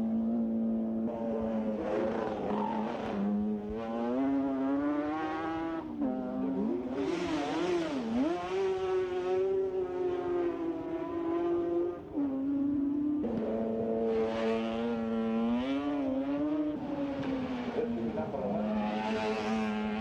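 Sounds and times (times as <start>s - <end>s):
racing engines screaming: 1.0s - 12.5s, 14.1s - 20.0s.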